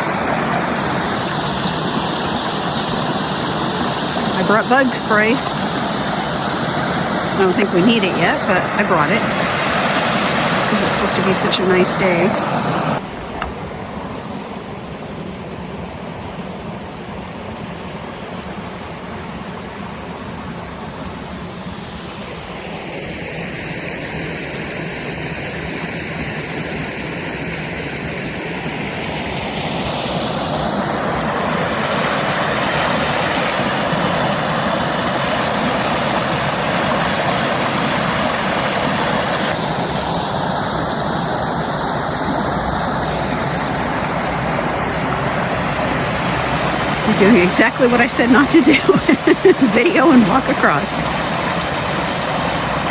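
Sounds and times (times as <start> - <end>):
waterfall water rushing: 0.0 - 52.9.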